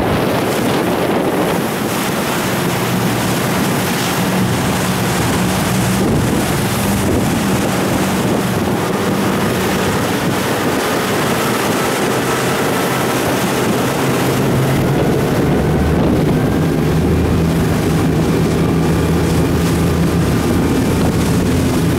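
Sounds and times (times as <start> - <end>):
motorboat engine running: 0.0 - 21.9
waves splashing against hull: 0.0 - 21.9
wind buffeting microphone: 0.0 - 21.9.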